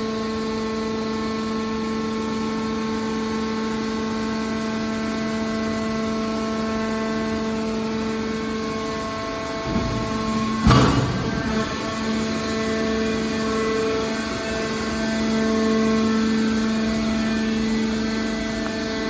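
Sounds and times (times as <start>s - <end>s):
hydraulic pump whining: 3.7s - 19.0s.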